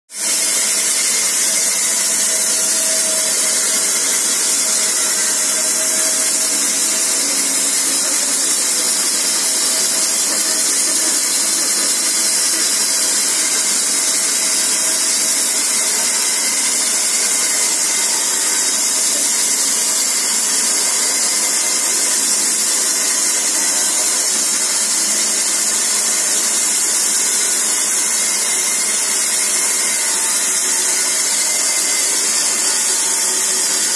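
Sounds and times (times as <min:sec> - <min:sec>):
band sawmill hissing: 0:00.2 - 0:33.9.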